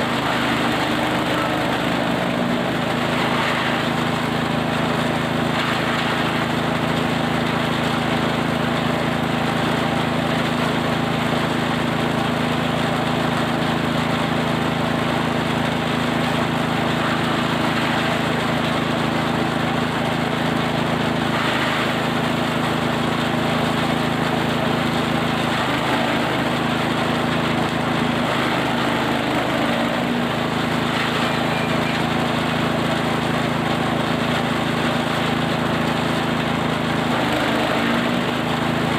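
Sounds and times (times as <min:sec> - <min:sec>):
forage chopper engine grinding feed: 0:00.0 - 0:38.9.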